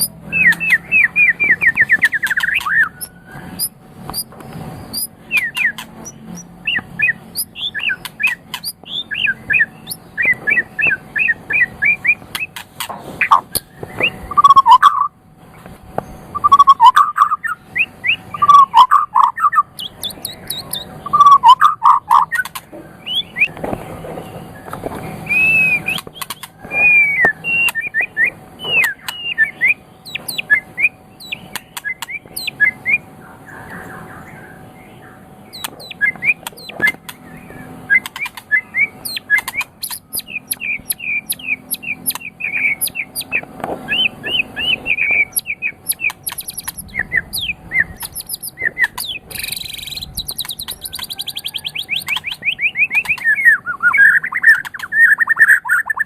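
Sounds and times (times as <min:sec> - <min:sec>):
bird singing whistled song: 0:00.0 - 0:12.6, 0:13.2 - 0:15.1, 0:16.0 - 0:23.7, 0:24.6 - 0:56.0.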